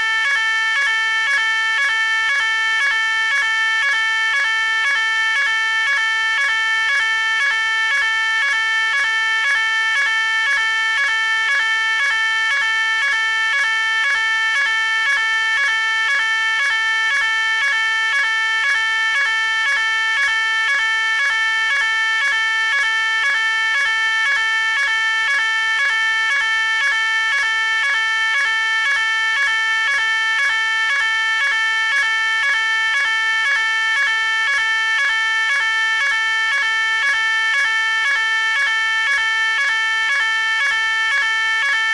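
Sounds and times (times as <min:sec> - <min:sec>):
fire alarm pulsing: 0:00.0 - 0:41.9.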